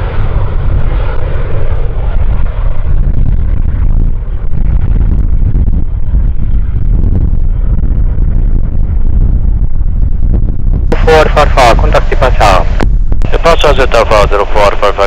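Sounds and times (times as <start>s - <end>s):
aircraft engines roaring: 0.0s - 15.0s
wind buffeting microphone: 0.0s - 15.0s.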